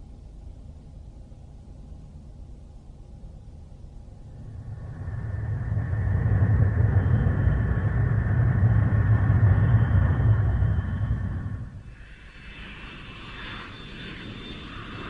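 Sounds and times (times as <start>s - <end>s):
deep engine rumble of flying craft: 0.0s - 15.0s.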